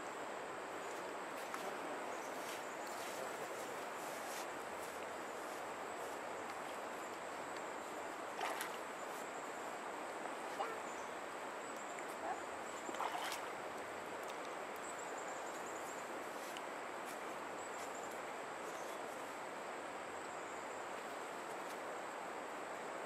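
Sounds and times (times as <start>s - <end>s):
river flowing: 0.0s - 23.0s.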